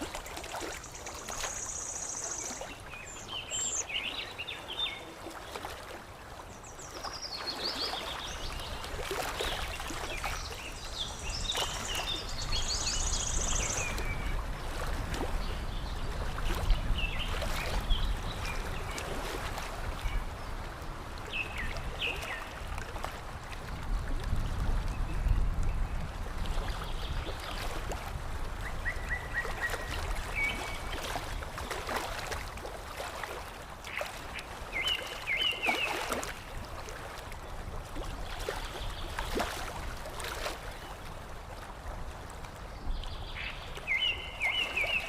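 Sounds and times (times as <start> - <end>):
water lapping and trickling: 0.0 - 45.0.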